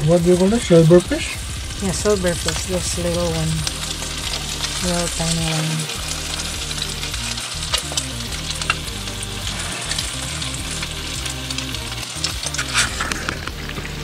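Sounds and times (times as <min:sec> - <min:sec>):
fritters sizzling in hot oil: 0:00.0 - 0:14.0
oil popping and spitting: 0:00.0 - 0:14.0.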